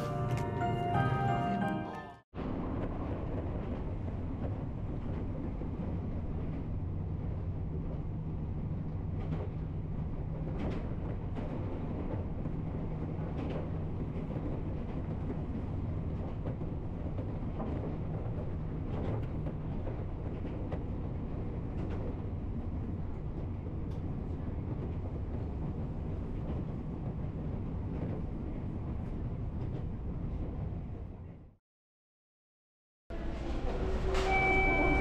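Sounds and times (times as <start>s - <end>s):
train rumbling: 0.0s - 31.6s, 33.1s - 35.0s.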